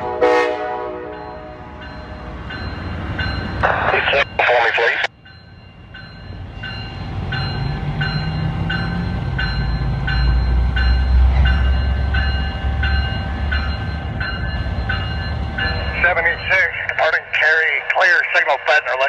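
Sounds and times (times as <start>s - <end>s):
diesel locomotive drone: 0.0s - 19.0s
train rumble: 0.0s - 19.0s
bell ringing: 1.1s - 4.6s, 5.2s - 17.6s.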